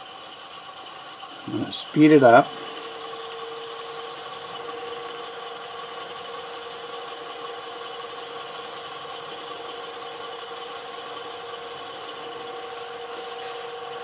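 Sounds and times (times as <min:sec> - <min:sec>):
wood lathe motor whining: 0:00.0 - 0:14.0.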